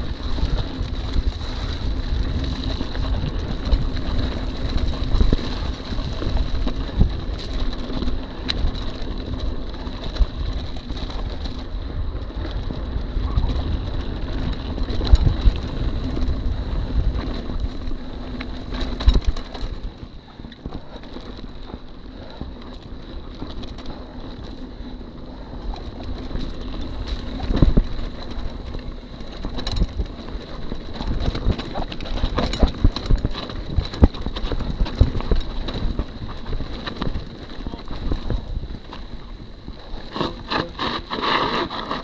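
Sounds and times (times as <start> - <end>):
bike rattling over bumps: 0.0 - 42.0
wind buffeting microphone: 0.0 - 42.0.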